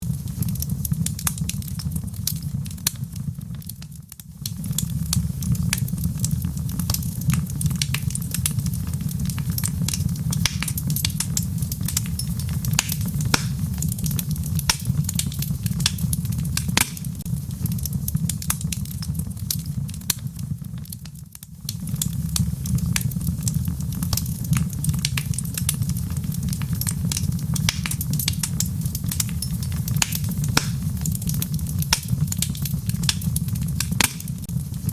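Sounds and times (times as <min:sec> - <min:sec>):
log fire crackling and popping: 0:00.0 - 0:34.9
low rumble of flames: 0:00.0 - 0:34.9.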